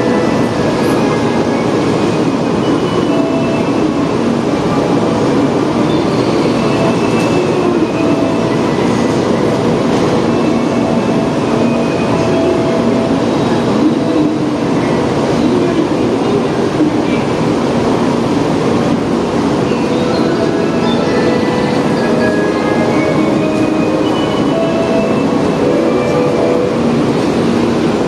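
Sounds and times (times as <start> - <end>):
train hum and rumble: 0.0 - 28.0.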